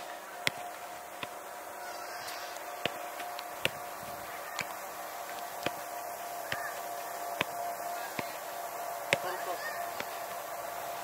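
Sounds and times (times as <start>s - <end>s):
footballs being kicked: 0.0s - 1.6s, 2.7s - 11.0s
faint steady hum: 0.0s - 11.0s.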